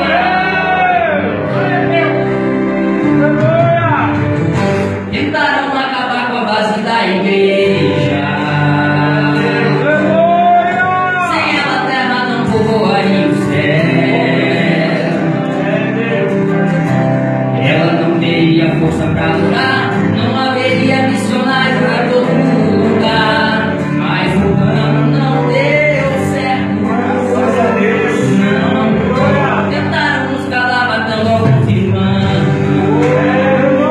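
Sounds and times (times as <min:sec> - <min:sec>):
voices singing worship song: 0:00.0 - 0:04.1, 0:05.1 - 0:33.9
instrumental backing: 0:00.0 - 0:33.9.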